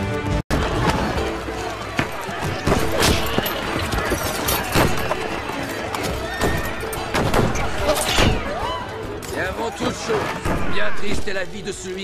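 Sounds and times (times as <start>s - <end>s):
film soundtrack music: 0.0s - 12.0s.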